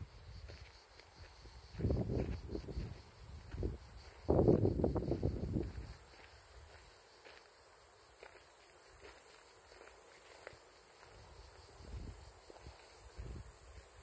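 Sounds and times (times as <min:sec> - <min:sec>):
cicadas droning: 0:00.0 - 0:14.0
faint footsteps on path: 0:00.0 - 0:14.0.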